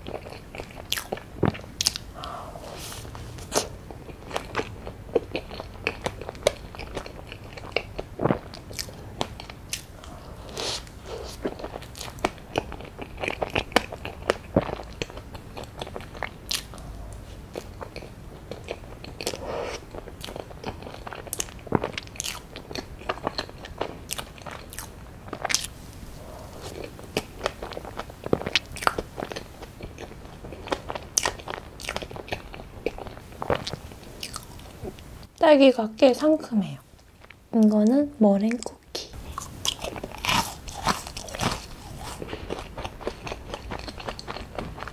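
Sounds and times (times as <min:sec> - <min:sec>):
biting and chewing food: 0:00.0 - 0:35.1, 0:39.1 - 0:44.9.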